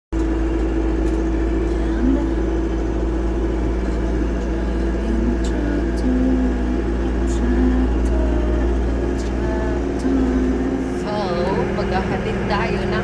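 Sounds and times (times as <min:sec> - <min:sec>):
vehicle engine droning: 0:00.2 - 0:13.0.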